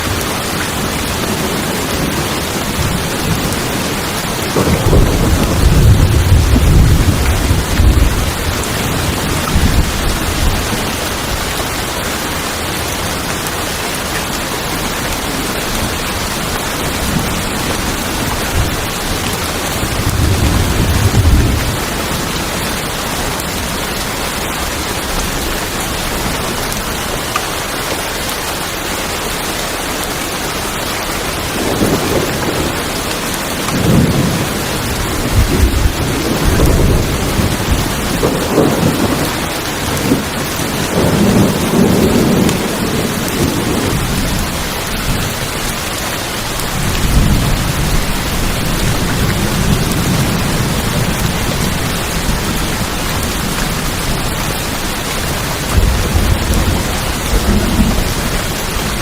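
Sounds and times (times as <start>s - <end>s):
thunder rumbling: 0.0s - 11.9s, 14.6s - 27.2s, 31.3s - 59.0s
heavy rain on a tin roof: 0.0s - 59.0s.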